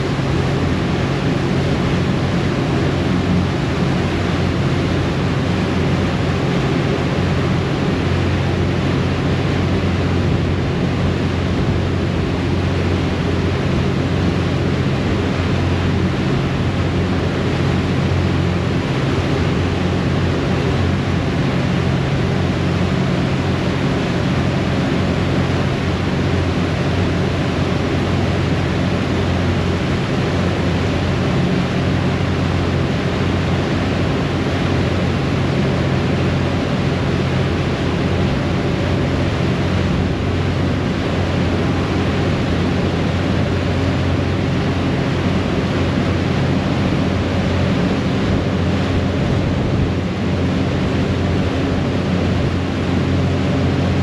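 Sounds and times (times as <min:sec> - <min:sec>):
churning wake rushing: 0:00.0 - 0:54.0
wind: 0:00.0 - 0:54.0.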